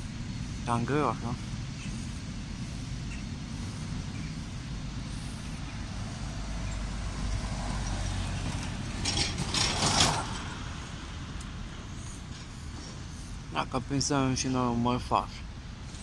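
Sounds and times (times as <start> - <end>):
truck driving past: 0.0 - 13.5.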